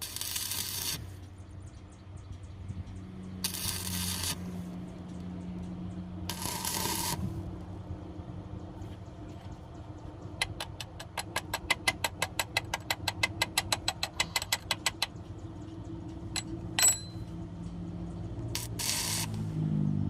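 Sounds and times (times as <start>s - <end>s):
low engine-like hum: 0.0s - 20.0s.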